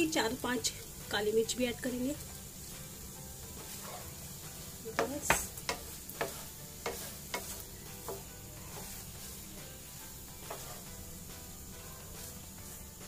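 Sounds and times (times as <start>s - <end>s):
faint sizzle: 0.0s - 13.0s
spatula scraping frying pan: 2.3s - 13.0s.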